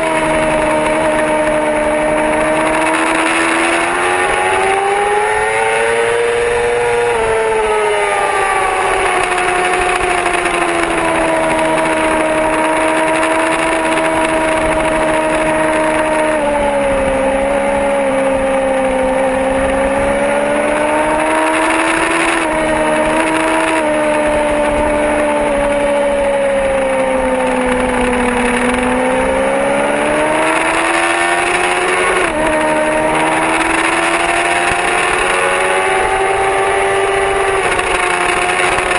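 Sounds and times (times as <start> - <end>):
rain noise: 0.0 - 38.9
rushing wind: 0.0 - 38.9
sport bike engine revving: 0.0 - 38.9.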